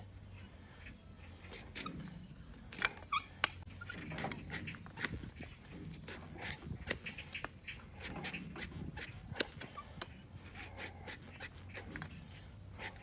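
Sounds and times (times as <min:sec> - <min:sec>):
blade paring hoof with cracks: 0:01.5 - 0:12.2.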